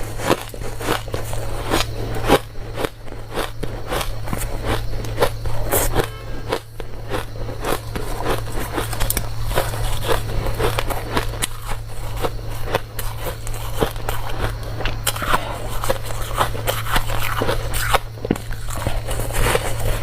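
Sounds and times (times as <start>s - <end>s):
crunching ice: 0.0s - 20.0s
low electrical hum: 0.0s - 20.0s.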